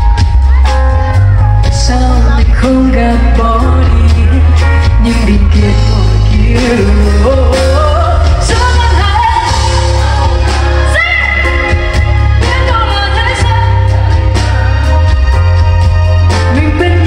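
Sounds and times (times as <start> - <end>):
live band with heavy bass: 0.0 - 17.0
person singing: 0.0 - 17.0.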